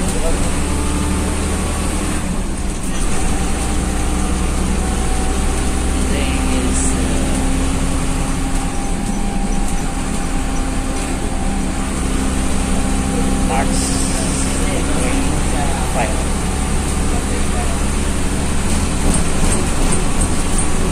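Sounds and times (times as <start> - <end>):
bus engine drone: 0.0 - 20.9
road noise: 0.0 - 20.9.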